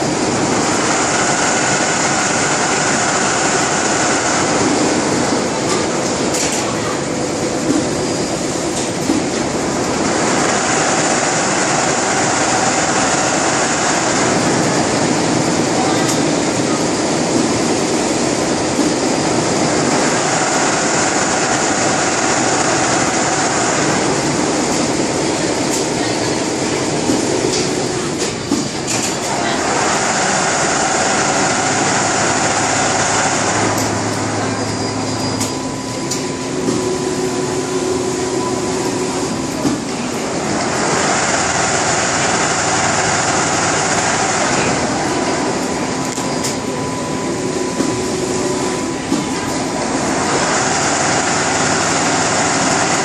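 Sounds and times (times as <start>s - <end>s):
sewing machine whirring: 0.0s - 7.2s, 9.4s - 39.5s, 40.2s - 53.0s.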